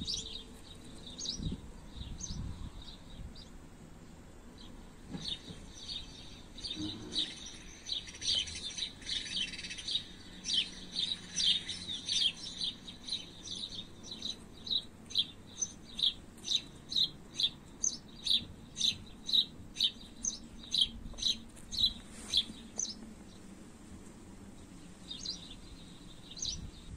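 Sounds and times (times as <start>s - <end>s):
songbird chirping: 0.0s - 26.9s.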